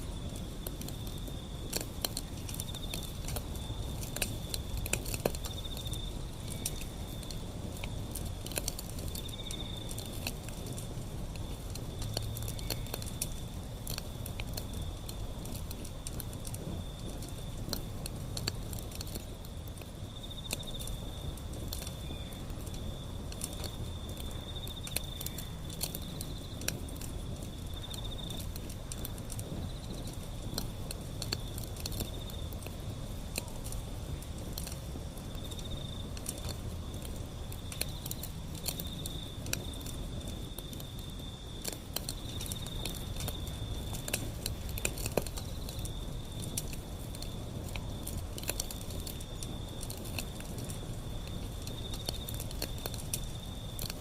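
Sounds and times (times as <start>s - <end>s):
crickets trilling: 0.0s - 54.0s
wood fire crackling: 0.0s - 54.0s.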